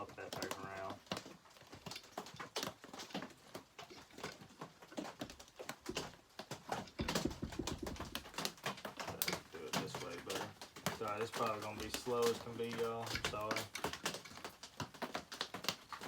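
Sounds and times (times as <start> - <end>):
tools clicking and knocking: 1.0 - 16.0.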